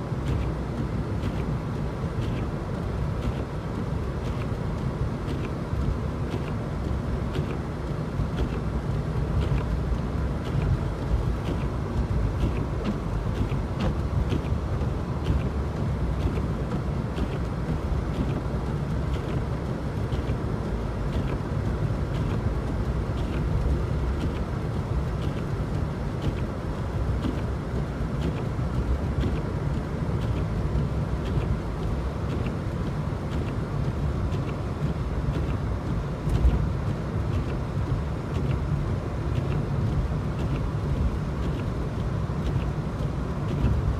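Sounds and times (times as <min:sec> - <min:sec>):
car road and engine rumble: 0:00.0 - 0:43.9
light regular ticks: 0:05.2 - 0:43.9.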